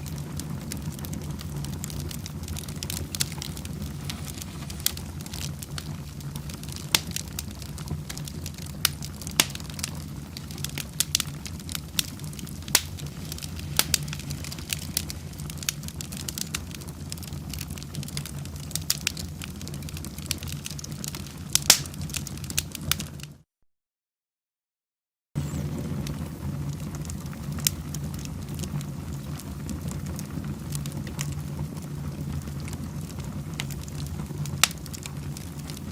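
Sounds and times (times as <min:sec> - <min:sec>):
fire rumbling: 0:00.0 - 0:23.4, 0:25.4 - 0:35.9
wood crackling and popping: 0:00.0 - 0:23.4, 0:25.4 - 0:35.9.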